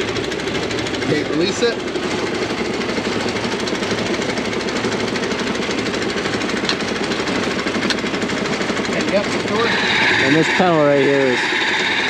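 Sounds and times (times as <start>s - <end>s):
pneumatic hammer hammering: 0.0s - 12.0s.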